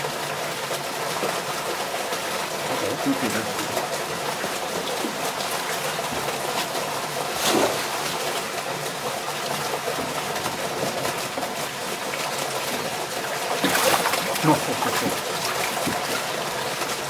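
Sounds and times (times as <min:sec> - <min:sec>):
steady rush of water: 0:00.0 - 0:17.0
water splashing into tank: 0:00.6 - 0:17.0.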